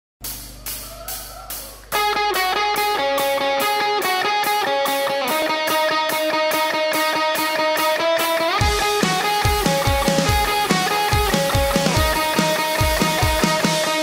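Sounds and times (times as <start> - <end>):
music with fast steady beat: 0.2 - 14.0
struck notes: 0.2 - 14.0.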